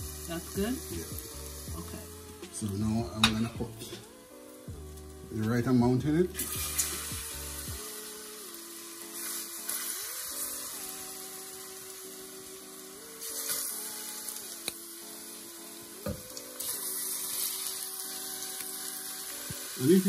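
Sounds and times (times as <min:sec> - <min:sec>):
plantain sizzling in hot oil: 0:00.0 - 0:20.0.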